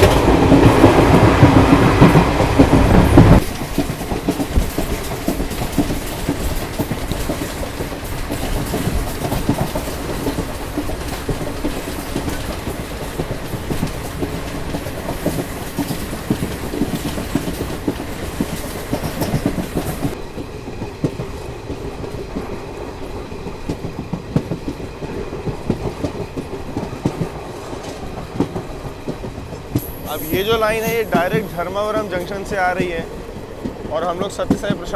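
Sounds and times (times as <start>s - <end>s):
train running rumble: 0.0s - 34.9s
wheels clicking on track: 0.0s - 34.9s.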